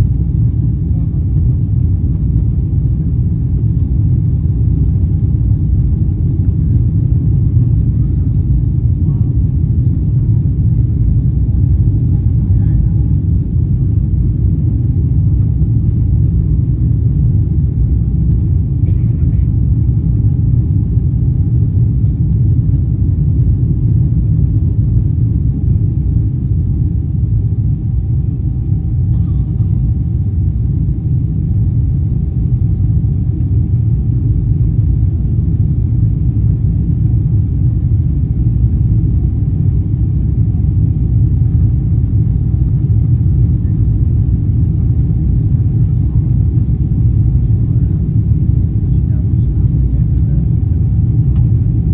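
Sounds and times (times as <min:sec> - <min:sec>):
faint steady whine: 0:00.0 - 0:51.9
jet engines and airflow rumbling: 0:00.0 - 0:51.9.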